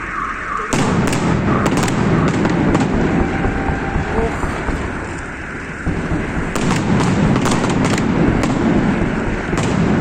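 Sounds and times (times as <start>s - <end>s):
fireworks booming and crackling: 0.0s - 10.0s.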